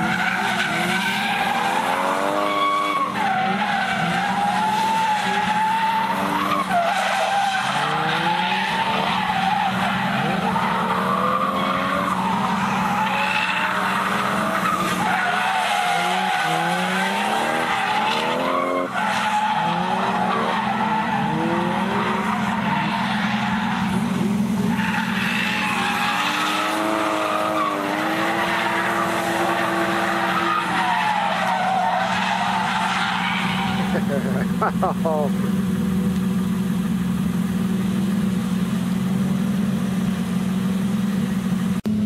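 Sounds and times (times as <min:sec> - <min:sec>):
tyres squealing: 0:00.0 - 0:35.0
car engine revving: 0:00.0 - 0:42.0.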